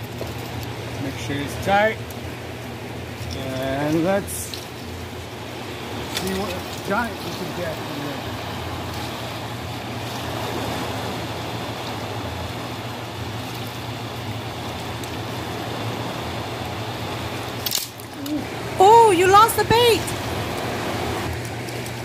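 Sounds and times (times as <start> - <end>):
turbulent river water rushing: 3.5 - 21.4.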